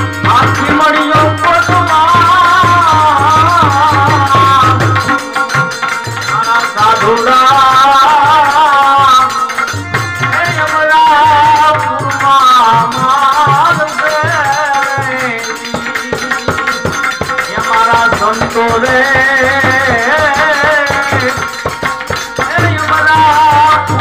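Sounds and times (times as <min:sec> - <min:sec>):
harmonium: 0:00.0 - 0:24.0
man singing: 0:00.0 - 0:24.0
tabla drumming: 0:00.0 - 0:24.0.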